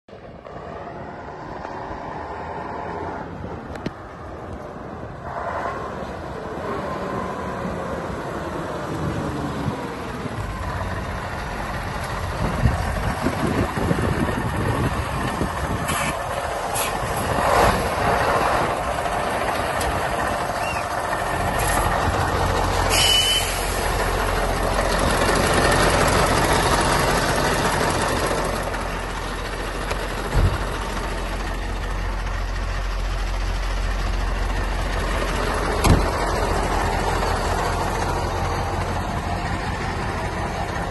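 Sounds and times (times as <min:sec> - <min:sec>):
truck engine: 0:00.1 - 0:40.9.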